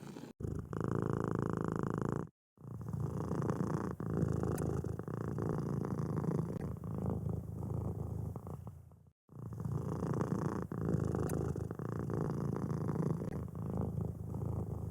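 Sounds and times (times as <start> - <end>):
kitten purring: 0.0 - 14.9.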